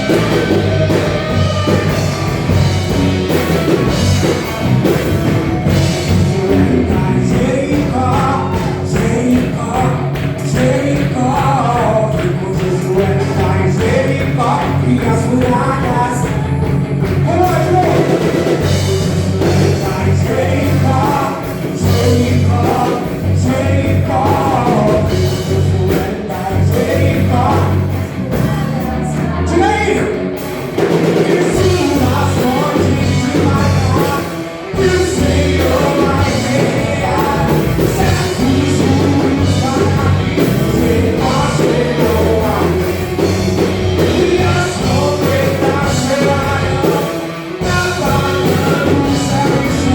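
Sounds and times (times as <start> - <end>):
rock band playing: 0.0 - 49.9
voices singing: 0.0 - 49.9.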